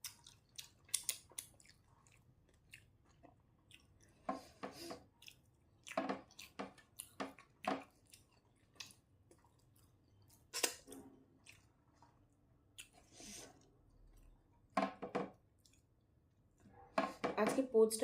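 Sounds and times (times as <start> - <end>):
chewing and wet mouth sounds: 0.0 - 14.7, 15.4 - 16.6.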